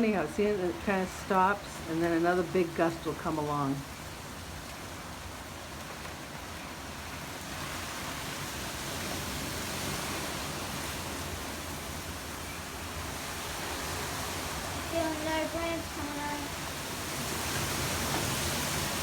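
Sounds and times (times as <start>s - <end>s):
hurricane wind gusting: 0.0s - 19.0s.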